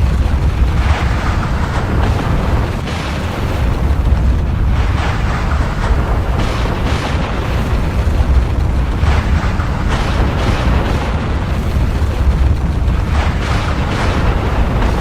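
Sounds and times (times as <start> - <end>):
eruption bursts: 0.0 - 15.0
volcanic eruption rumble: 0.0 - 15.0.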